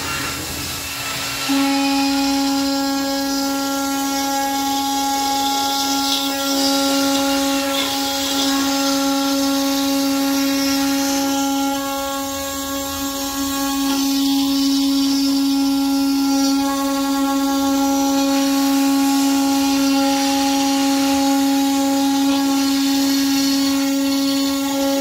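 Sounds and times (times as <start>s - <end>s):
hiss of cutting wood: 0.0s - 25.0s
router spindle high-pitched whine: 0.0s - 25.0s.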